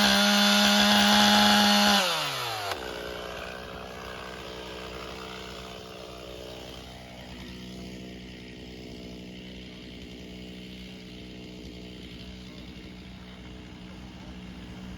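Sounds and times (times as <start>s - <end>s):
chainsaw running at high speed: 0.0s - 14.9s.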